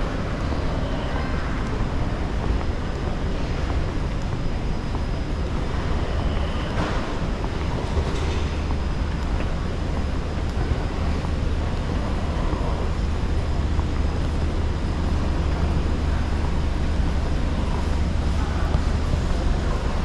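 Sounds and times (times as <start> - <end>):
low rumble with hiss in hall: 0.0 - 20.0.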